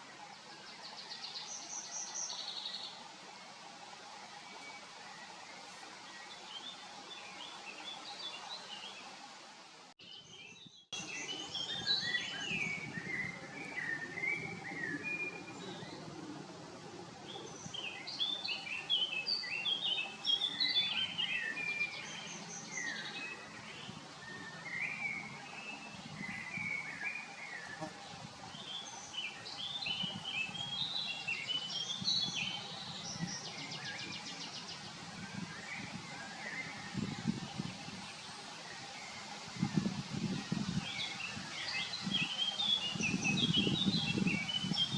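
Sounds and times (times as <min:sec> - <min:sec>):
small birds chirping: 0:00.0 - 0:09.3, 0:10.0 - 0:16.4, 0:17.2 - 0:44.9.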